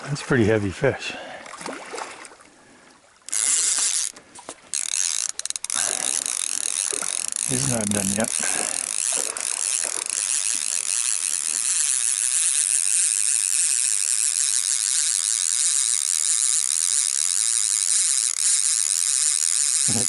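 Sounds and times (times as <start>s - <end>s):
fishing reel drag buzzing: 3.2s - 20.0s.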